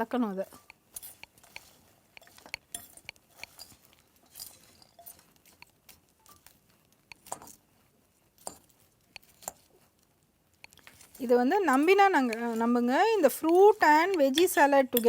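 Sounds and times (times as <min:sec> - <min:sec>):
utensil scraping a bowl: 0:00.3 - 0:09.9, 0:10.6 - 0:15.0.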